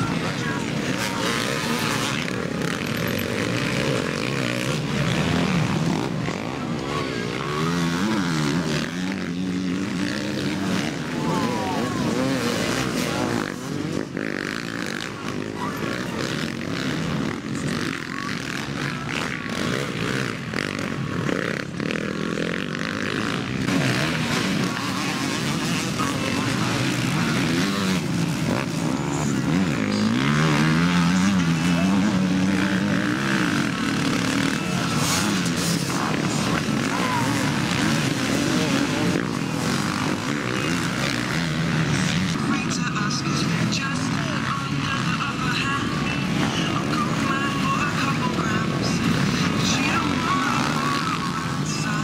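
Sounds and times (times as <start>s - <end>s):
motocross bikes revving: 0.0s - 52.0s.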